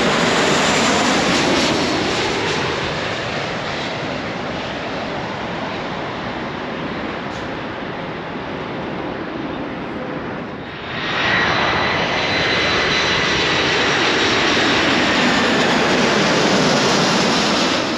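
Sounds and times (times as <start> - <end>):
jet engine roar: 0.0 - 17.9.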